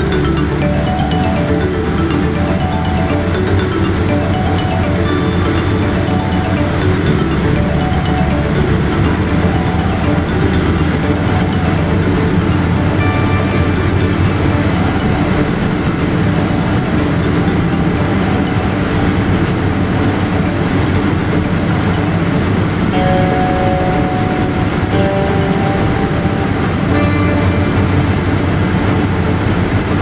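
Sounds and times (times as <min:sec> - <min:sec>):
airplane cabin engine roar: 0:00.0 - 0:30.0
faint steady whine: 0:00.0 - 0:30.0.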